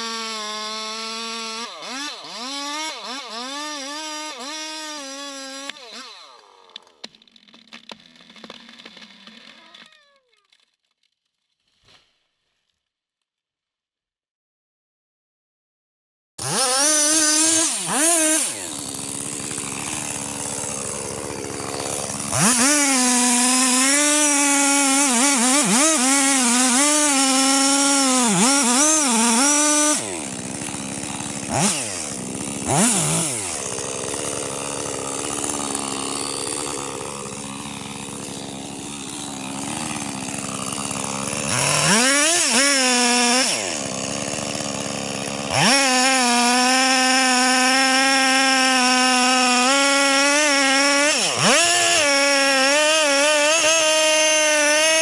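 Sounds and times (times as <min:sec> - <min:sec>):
chainsaw cutting and revving: 0:00.0 - 0:10.2, 0:16.4 - 0:55.0.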